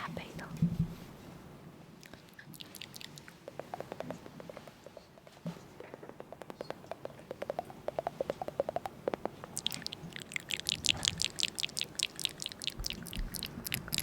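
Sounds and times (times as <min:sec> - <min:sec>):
rapid light taps: 0:02.5 - 0:14.0.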